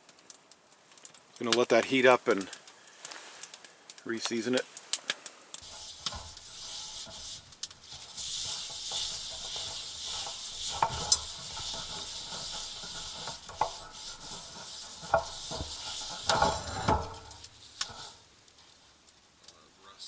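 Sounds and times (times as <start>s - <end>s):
oil sizzling in a pan: 1.7s - 19.1s.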